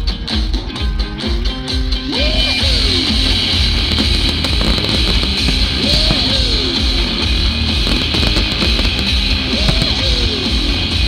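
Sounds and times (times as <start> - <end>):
heavy rock music over loudspeakers: 0.0 - 11.0.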